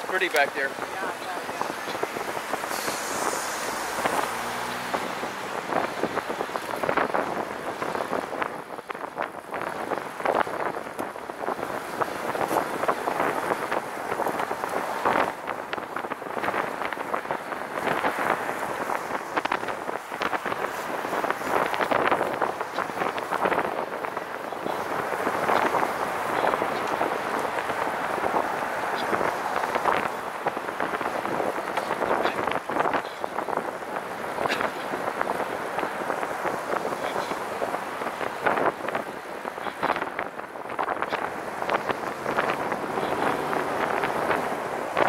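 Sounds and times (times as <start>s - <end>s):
tyre and road noise: 0.0s - 45.0s
wind noise on microphone: 0.0s - 45.0s.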